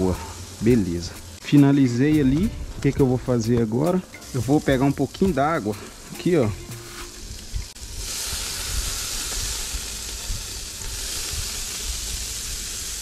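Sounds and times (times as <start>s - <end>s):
water hissing on hot grill: 0.0s - 13.0s.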